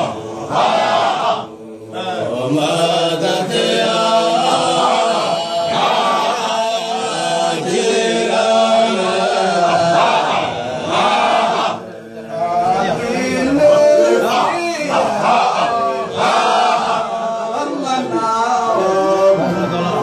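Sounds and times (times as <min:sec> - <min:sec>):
men chanting together: 0:00.0 - 0:20.0.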